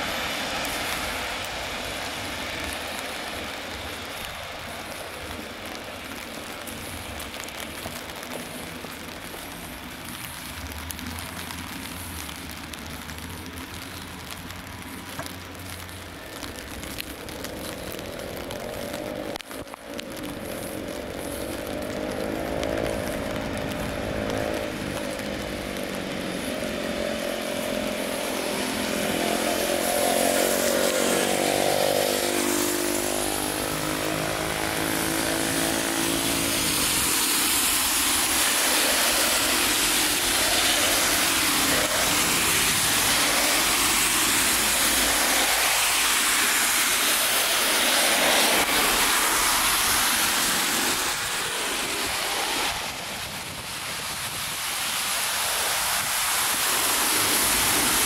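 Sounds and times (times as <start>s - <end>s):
tyres hissing on wet road: 0.0s - 58.0s
vehicle engine hum: 0.0s - 58.0s.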